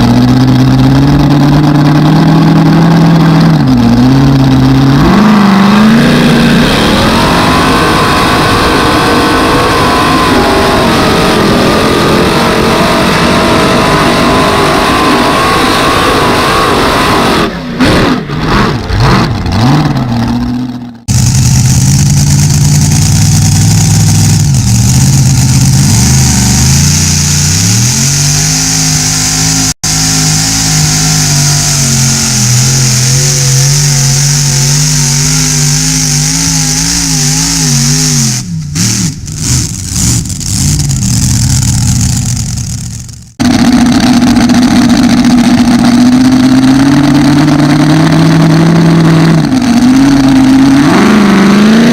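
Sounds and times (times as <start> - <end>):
tractor engine running hard: 0.0 - 51.9.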